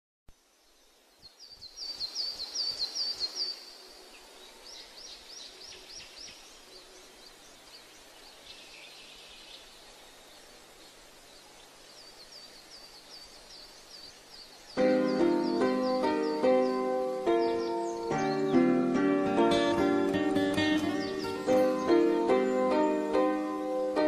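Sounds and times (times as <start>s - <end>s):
steady outdoor hiss: 0.3s - 24.0s
birds chirping: 0.4s - 24.0s.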